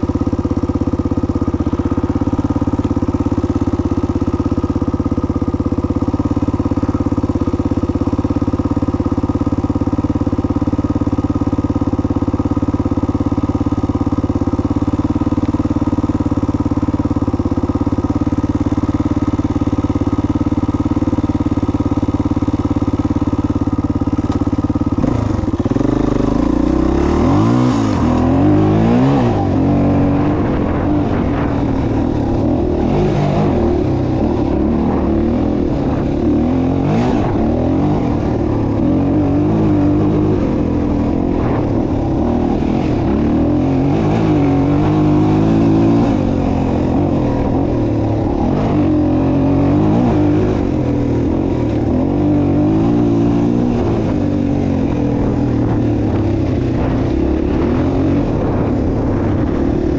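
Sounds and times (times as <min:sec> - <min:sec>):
engine running and revving: 0:00.0 - 0:59.9.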